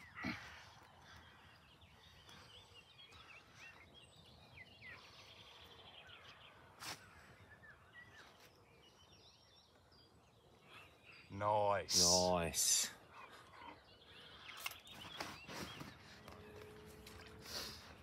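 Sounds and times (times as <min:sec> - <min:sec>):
faint birdsong chirps and whistles: 0:00.0 - 0:18.0.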